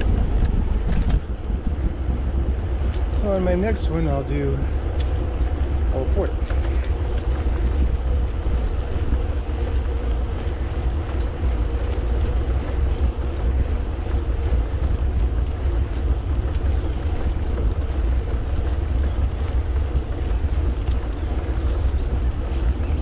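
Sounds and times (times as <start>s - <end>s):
bike tyres rolling on asphalt: 0.0s - 23.0s
wind on microphone: 0.0s - 23.0s.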